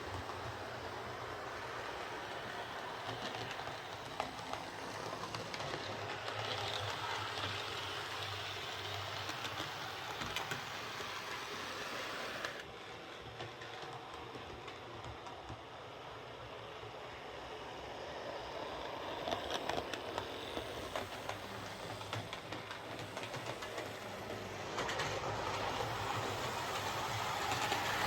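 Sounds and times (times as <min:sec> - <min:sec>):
model train motor whirring: 0:00.0 - 0:12.8, 0:16.4 - 0:28.0.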